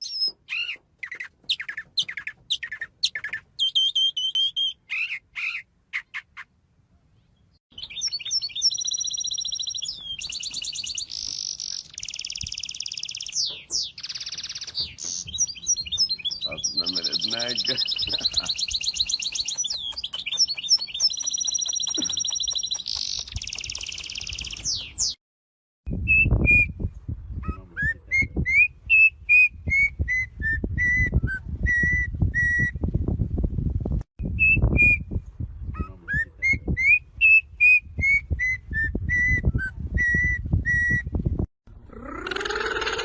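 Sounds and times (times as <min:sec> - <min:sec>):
songbird trills and whistles: 0:00.0 - 0:06.4, 0:07.8 - 0:25.2, 0:27.4 - 0:32.8, 0:34.3 - 0:41.1.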